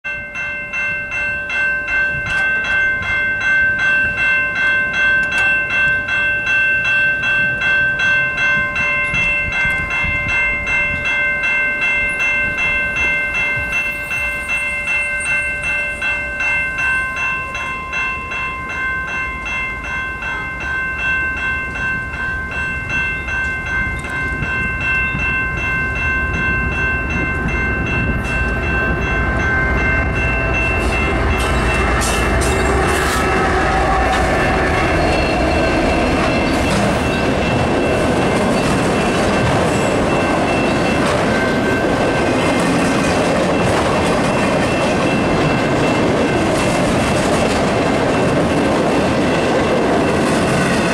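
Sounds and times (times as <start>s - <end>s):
level crossing warning bell: 0.0s - 50.9s
low rumble of freight train: 0.1s - 50.9s.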